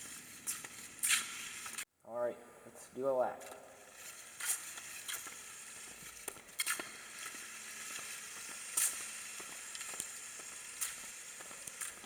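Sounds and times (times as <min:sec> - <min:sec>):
rc car motor hiss: 0:00.0 - 0:01.8, 0:03.8 - 0:12.0.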